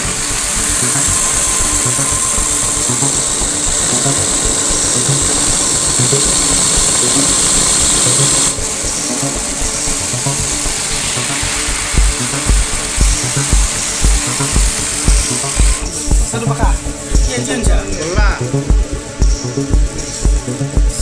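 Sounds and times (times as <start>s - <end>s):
sewing machine running: 0.0s - 18.3s
background music: 0.0s - 21.0s.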